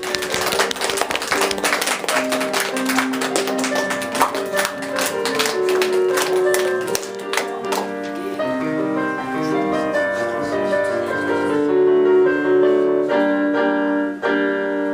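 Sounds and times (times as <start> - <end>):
keyboard melody of held notes: 0.0 - 14.9.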